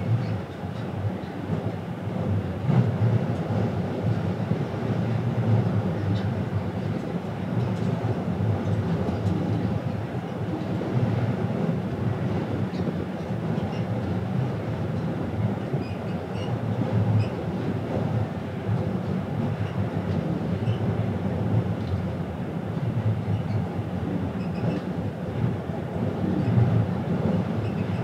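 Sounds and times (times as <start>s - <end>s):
ferry engine and hull drone: 0.0s - 28.0s.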